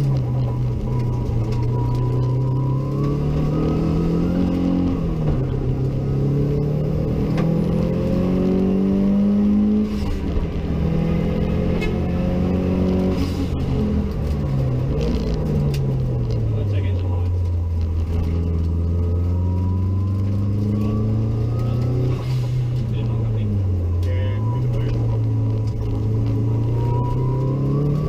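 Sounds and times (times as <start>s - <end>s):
rally car engine accelerating: 0.0s - 28.0s.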